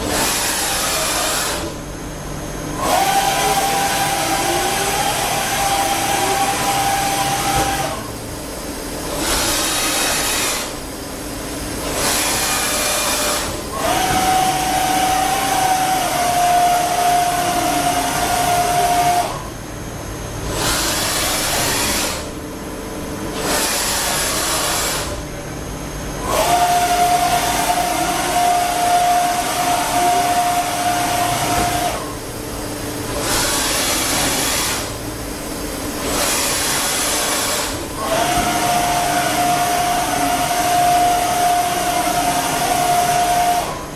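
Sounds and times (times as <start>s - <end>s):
steady machine whine: 0.0s - 43.9s.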